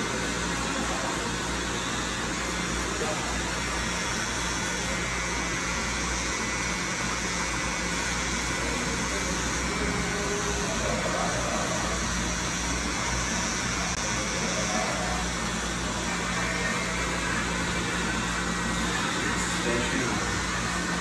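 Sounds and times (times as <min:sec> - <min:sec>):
hair trimmer humming: 0:00.0 - 0:21.0.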